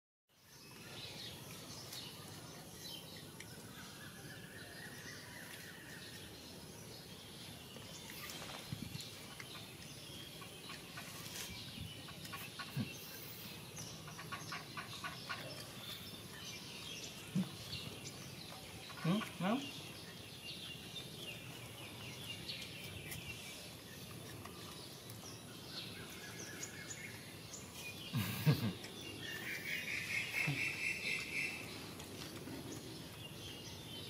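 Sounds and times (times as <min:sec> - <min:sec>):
birds chirping: 0:00.4 - 0:34.0.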